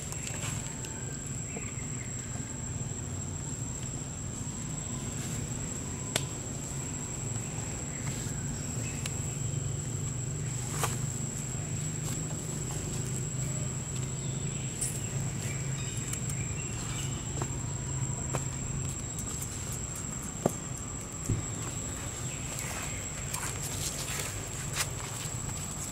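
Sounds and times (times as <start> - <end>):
high-pitched insect drone: 0.1 - 25.9.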